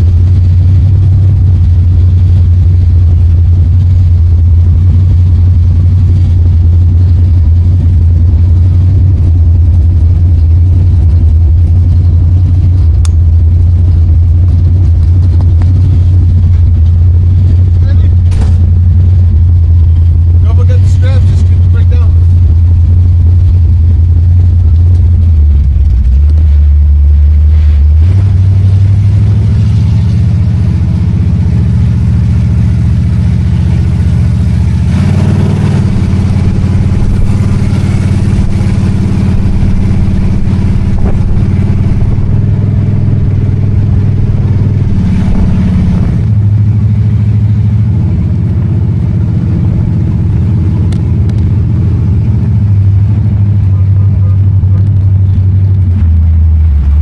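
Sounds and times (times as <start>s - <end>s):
car engine and exhaust: 0.0s - 57.0s.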